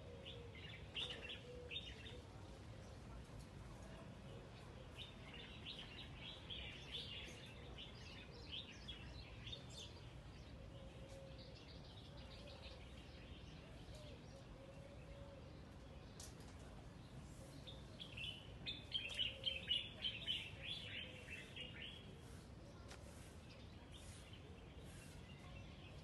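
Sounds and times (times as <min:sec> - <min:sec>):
small birds chirping: 0:03.8 - 0:26.0.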